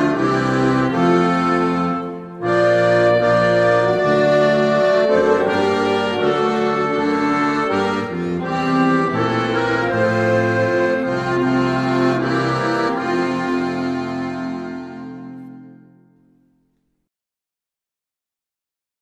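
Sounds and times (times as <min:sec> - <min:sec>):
accordion and brass band hymn: 0:00.0 - 0:16.1.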